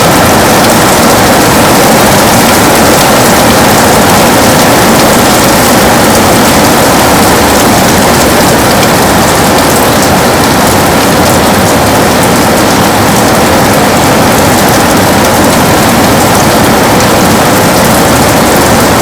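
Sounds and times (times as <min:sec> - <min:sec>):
heavy rain on window glass: 0:00.0 - 0:19.0.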